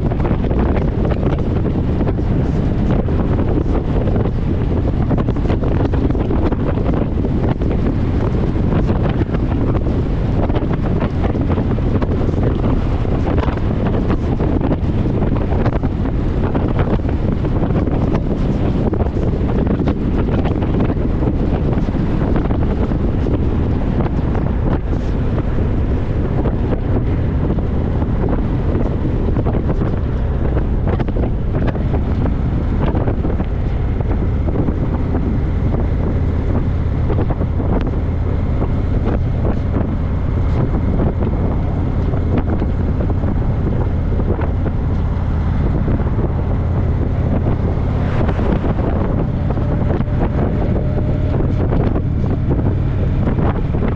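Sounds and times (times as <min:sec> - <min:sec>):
low rumble: 0:00.0 - 0:53.9
wind on microphone: 0:00.0 - 0:53.9.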